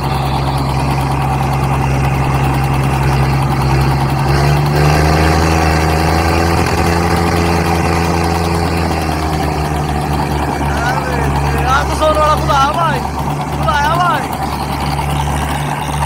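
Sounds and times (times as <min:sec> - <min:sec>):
tractor diesel engines under load: 0:00.0 - 0:16.0.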